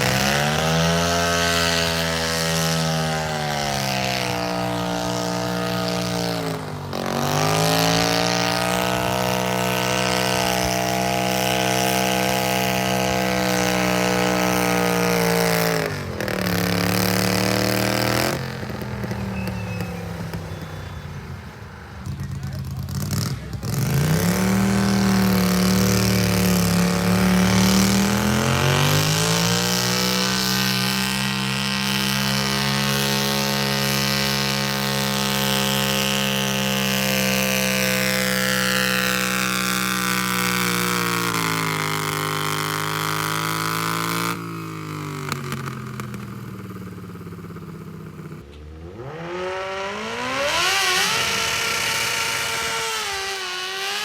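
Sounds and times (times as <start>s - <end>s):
pulling tractor engine revving: 0.0s - 54.0s.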